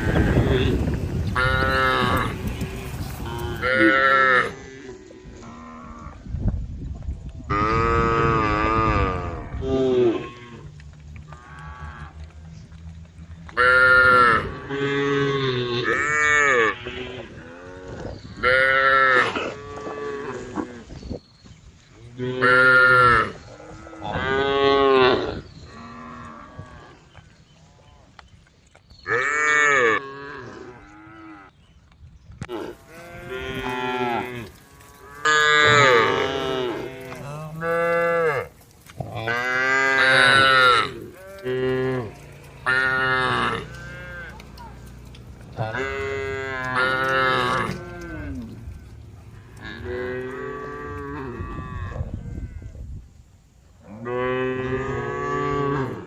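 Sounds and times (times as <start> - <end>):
cows mooing: 0.0 - 6.2, 7.5 - 12.6, 13.5 - 20.9, 22.2 - 27.1, 29.1 - 31.5, 32.5 - 52.8, 53.8 - 56.0.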